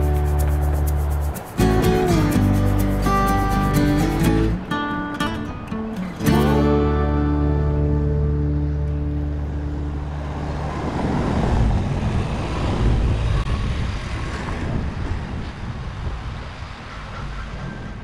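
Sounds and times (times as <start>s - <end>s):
low traffic rumble: 0.0s - 18.0s
vehicles passing: 0.0s - 18.0s.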